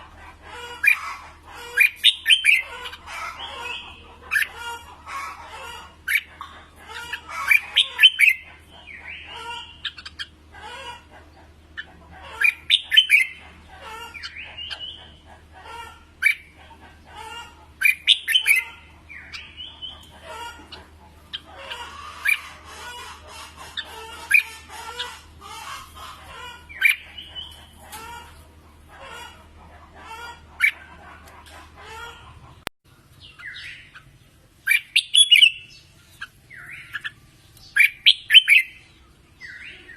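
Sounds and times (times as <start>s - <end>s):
bird warbling song: 0.0s - 28.6s, 30.2s - 39.9s
bird chattering calls: 0.0s - 39.9s.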